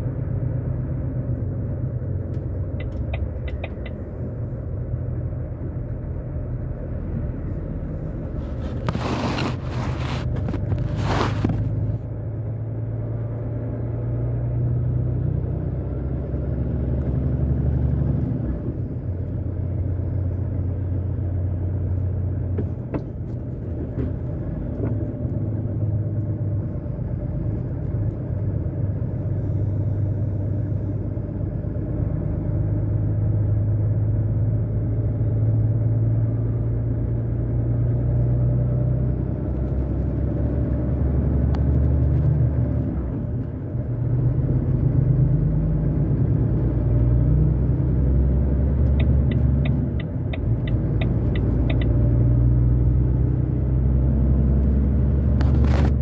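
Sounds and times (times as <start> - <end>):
vehicle engine and tyres droning: 0.0 - 56.0.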